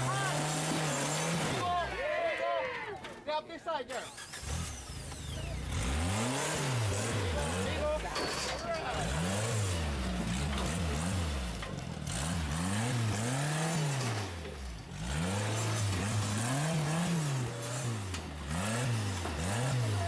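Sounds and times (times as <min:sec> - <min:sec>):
buggy engine revving: 0:00.0 - 0:02.2, 0:03.8 - 0:20.0.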